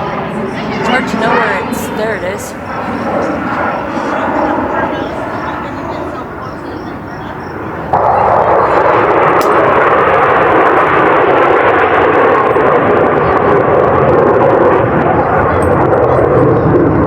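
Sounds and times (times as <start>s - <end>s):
jet engines roaring overhead: 0.0s - 17.0s.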